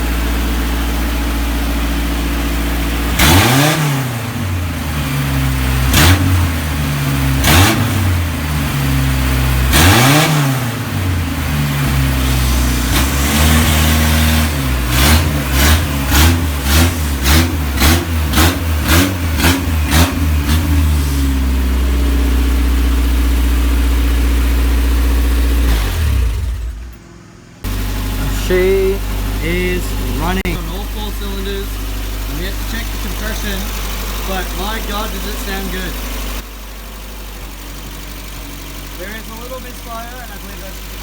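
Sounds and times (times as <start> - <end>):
engine revving and idling: 0.0 - 41.0.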